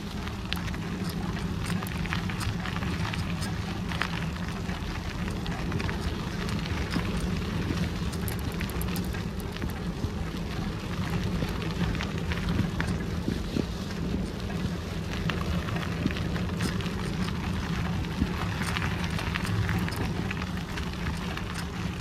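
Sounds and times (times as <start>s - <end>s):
bicycle tyres clicking on path: 0.0s - 22.0s.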